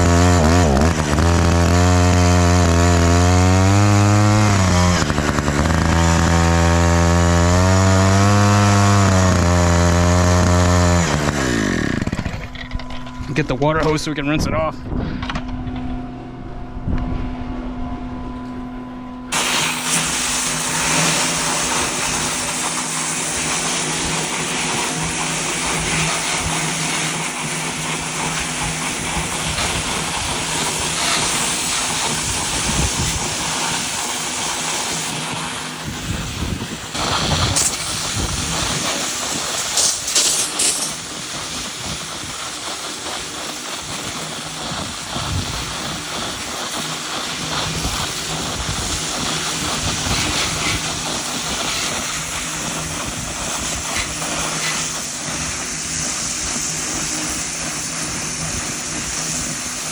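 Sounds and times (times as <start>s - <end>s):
water spraying from hose: 0.0s - 12.5s, 19.3s - 59.9s.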